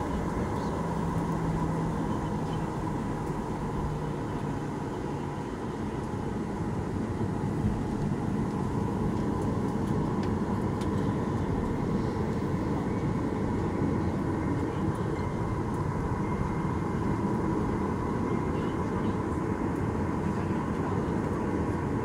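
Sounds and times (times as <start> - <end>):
jet engines idling rumble: 0.0 - 22.0
wheels rumbling on taxiway: 0.0 - 22.0.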